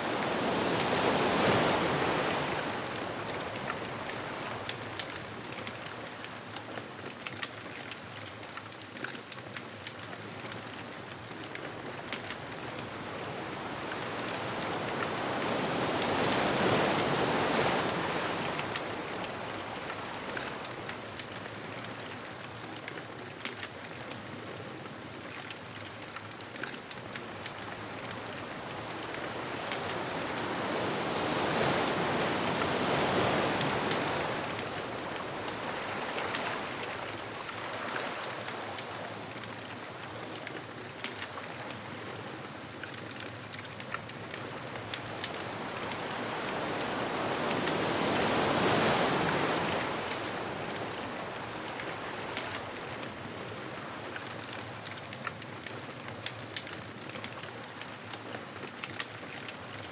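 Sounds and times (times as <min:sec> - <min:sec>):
ocean waves washing onto beach: 0:00.0 - 0:59.9
bonfire crackling: 0:00.1 - 0:59.9.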